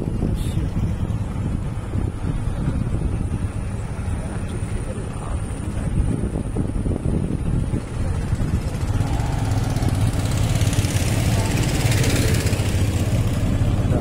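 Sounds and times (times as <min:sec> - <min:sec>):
engine humming: 0:00.0 - 0:14.0
rushing noise: 0:00.0 - 0:14.0.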